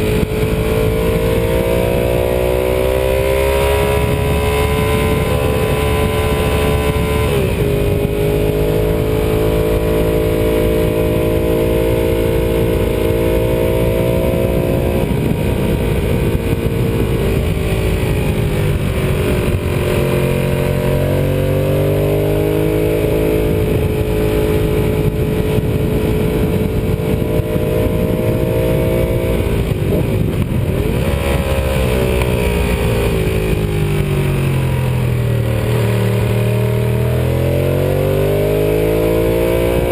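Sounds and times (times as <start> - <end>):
motorcycle engine running: 0.0 - 39.9
rushing wind noise: 0.0 - 39.9.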